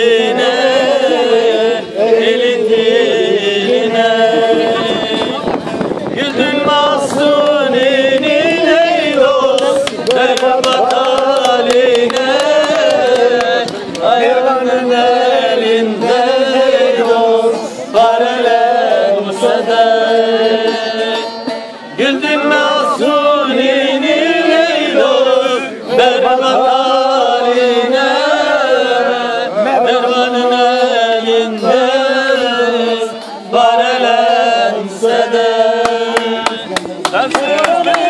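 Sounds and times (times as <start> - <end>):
long-necked lute strumming: 0.0 - 37.0
men singing folk song: 0.0 - 38.0.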